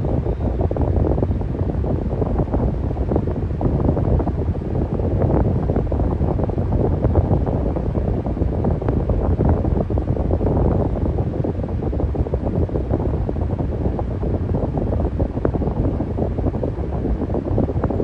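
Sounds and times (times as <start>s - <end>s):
airflow buffeting microphone: 0.0s - 18.0s
electric fan running: 0.0s - 18.0s.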